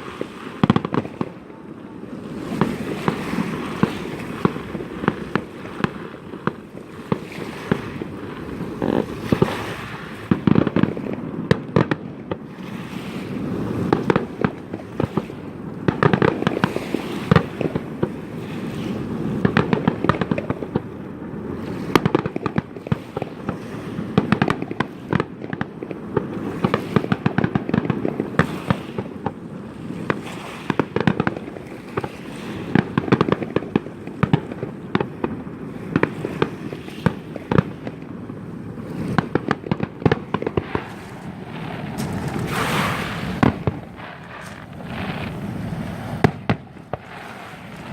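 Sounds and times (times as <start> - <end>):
fireworks booming and crackling: 0.0 - 47.9.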